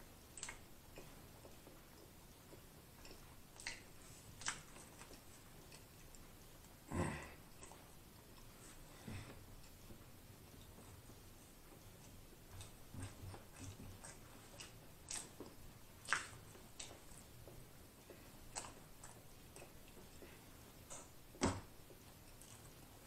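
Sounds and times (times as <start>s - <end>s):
chewing with mouth closed: 0.1s - 23.0s.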